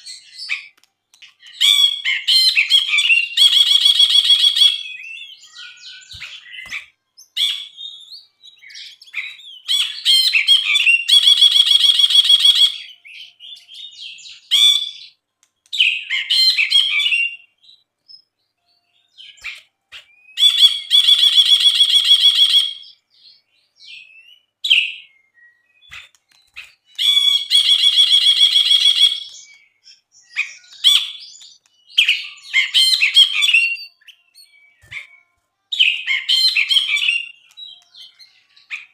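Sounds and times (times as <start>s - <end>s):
bird singing with buzzy trills: 0.0s - 38.9s.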